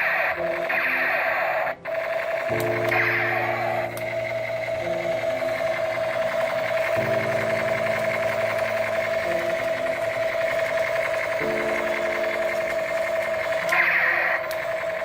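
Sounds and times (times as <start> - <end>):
high-pitched buzzing tone: 1.8 - 15.0.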